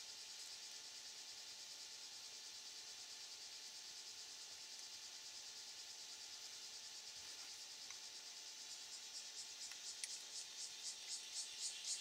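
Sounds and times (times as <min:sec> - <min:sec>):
high-pitched chirring hiss: 0:00.0 - 0:12.0.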